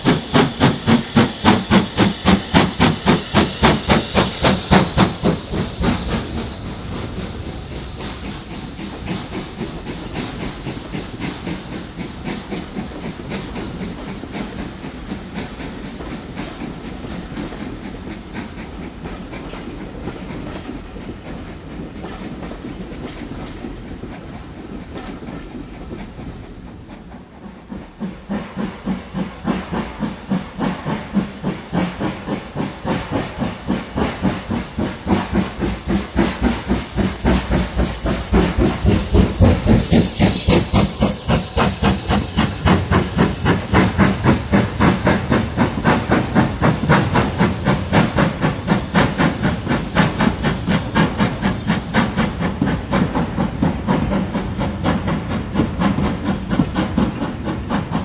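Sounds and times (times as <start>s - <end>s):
steam locomotive exhaust beat: 0.0s - 58.0s.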